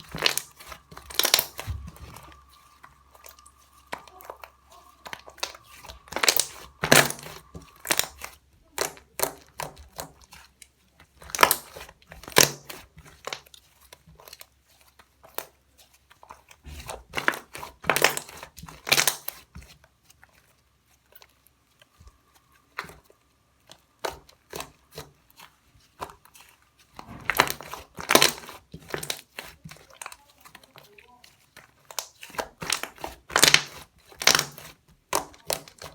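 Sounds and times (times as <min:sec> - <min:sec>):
slime squished by hand: 0:00.0 - 0:31.0, 0:31.7 - 0:35.9.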